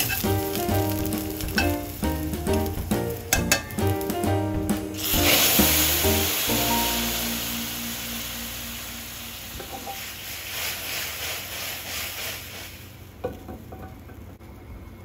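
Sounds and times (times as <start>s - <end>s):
oil sizzling and bubbling in pan: 0.0s - 14.0s.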